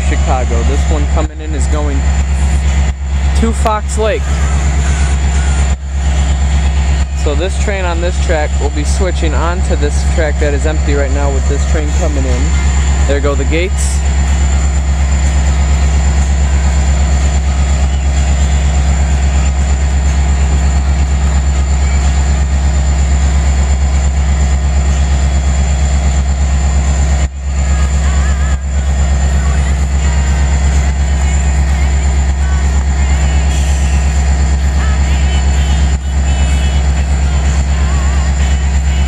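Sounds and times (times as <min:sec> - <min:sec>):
diesel locomotive idling: 0:00.0 - 0:39.0.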